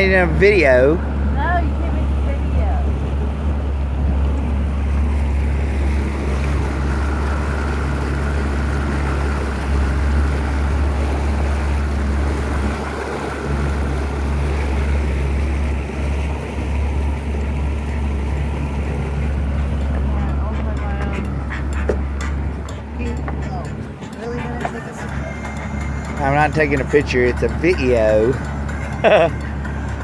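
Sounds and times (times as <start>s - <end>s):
motorboat engine drone: 0.0s - 30.0s
rushing water: 0.0s - 30.0s.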